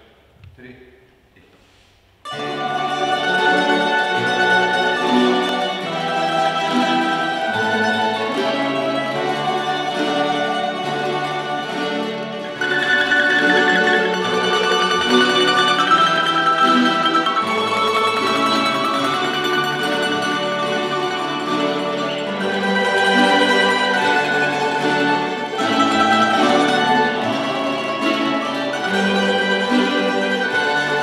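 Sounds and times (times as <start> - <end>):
string ensemble playing folk tune: 2.2 - 31.0.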